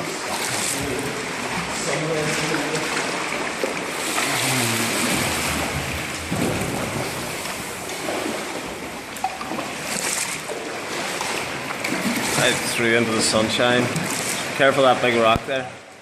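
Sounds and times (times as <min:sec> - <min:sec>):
sea waves rushing in blowhole: 0:00.0 - 0:14.7.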